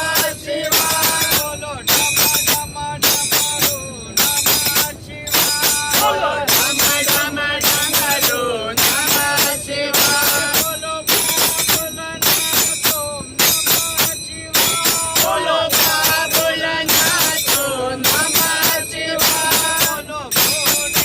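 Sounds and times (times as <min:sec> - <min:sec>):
jingling hand percussion: 0:00.0 - 0:21.0.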